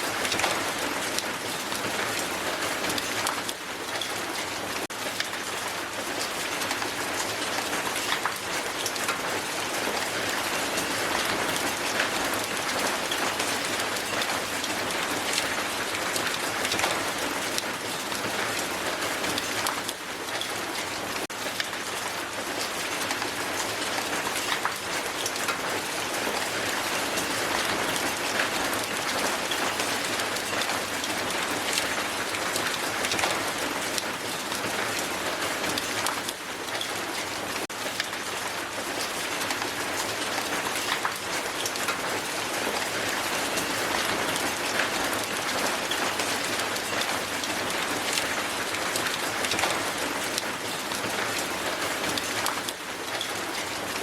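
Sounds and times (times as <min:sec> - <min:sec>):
hail falling on ground: 0:00.0 - 0:54.0.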